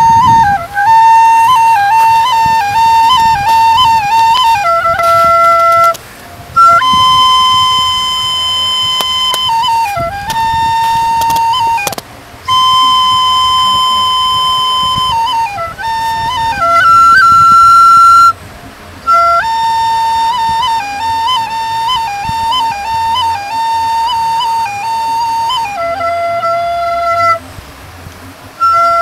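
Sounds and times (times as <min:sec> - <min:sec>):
solo flute melody: 0:00.0 - 0:29.0.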